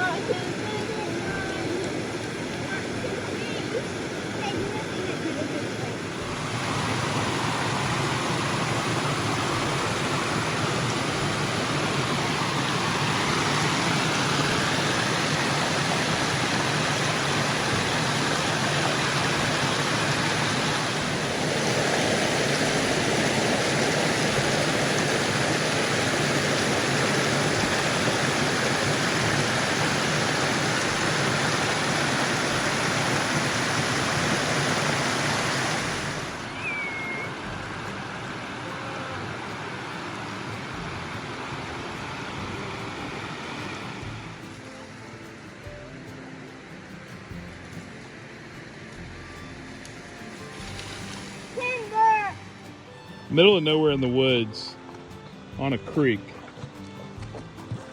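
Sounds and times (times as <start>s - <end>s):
creek water rushing: 0.0s - 57.9s.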